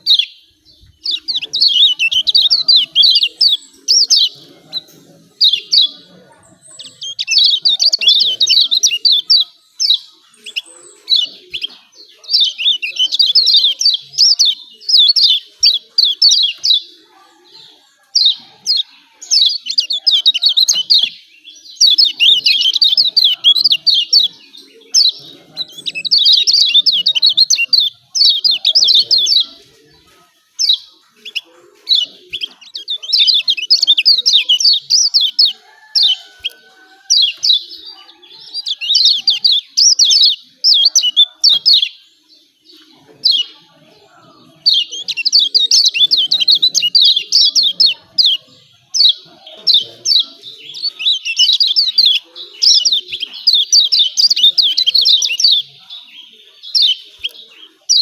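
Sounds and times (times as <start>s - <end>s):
bird chirping chatter: 0.0s - 58.0s.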